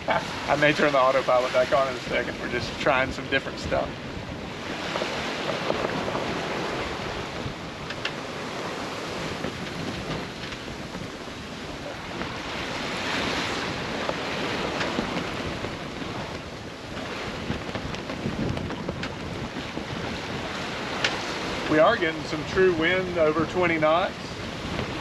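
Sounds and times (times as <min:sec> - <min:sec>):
water rushing along hull: 0:00.0 - 0:25.0
wind buffeting microphone: 0:00.0 - 0:25.0.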